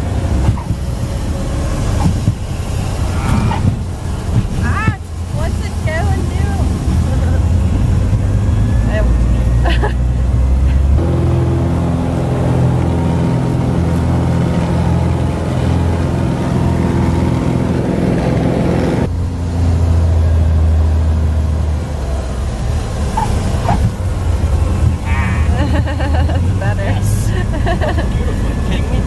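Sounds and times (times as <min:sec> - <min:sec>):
light aircraft engine droning: 0:00.0 - 0:29.0.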